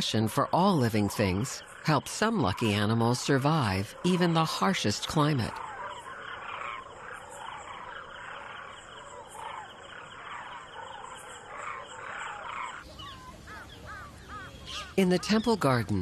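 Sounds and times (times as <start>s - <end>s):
chorus of animal calls: 0.0s - 16.0s.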